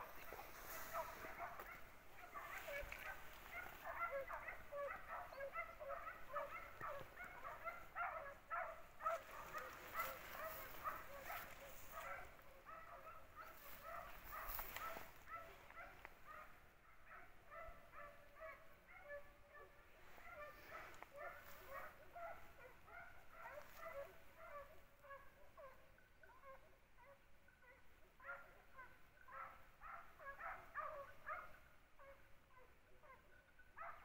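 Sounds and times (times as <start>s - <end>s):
hounds yelping: 0.0s - 34.0s.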